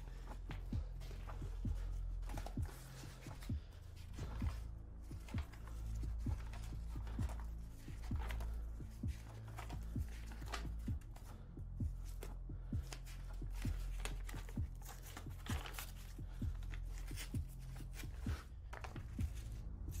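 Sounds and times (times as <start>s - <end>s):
low droning film score: 0.0s - 20.0s
paper pages rustling: 0.0s - 20.0s
soft rhythmic thud: 0.0s - 20.0s.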